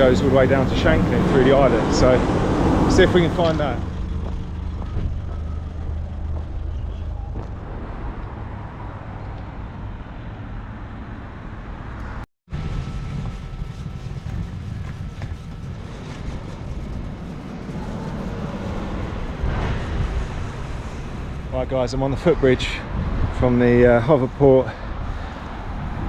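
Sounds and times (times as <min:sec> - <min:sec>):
engine low hum: 0:00.0 - 0:10.4, 0:12.5 - 0:23.5
road traffic rumble: 0:00.0 - 0:26.0.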